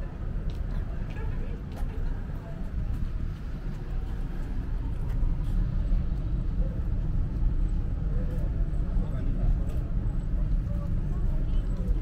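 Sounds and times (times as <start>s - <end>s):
faint city traffic hum: 0.0s - 12.0s.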